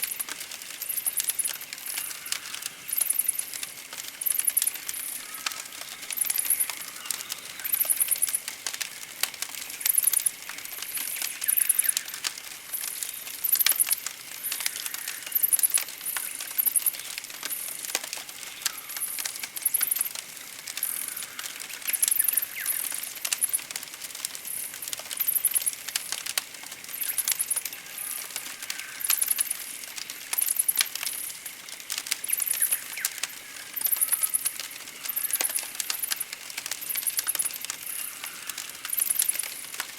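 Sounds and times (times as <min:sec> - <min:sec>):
campfire crackling and popping: 0:00.0 - 0:39.9
faint birdsong: 0:00.7 - 0:08.5, 0:09.6 - 0:23.6, 0:26.8 - 0:31.4, 0:32.2 - 0:39.7.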